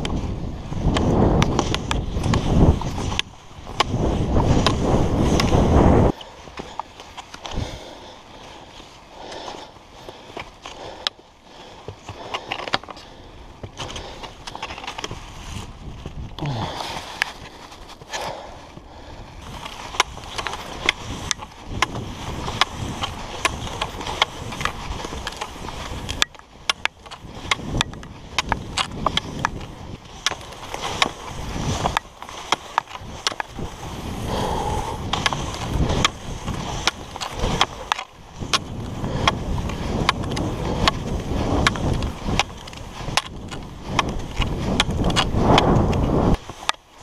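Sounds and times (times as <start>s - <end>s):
ski pole clicks: 0.0s - 7.7s, 8.4s - 18.3s, 19.4s - 47.0s
skis sliding over snow: 0.0s - 47.0s.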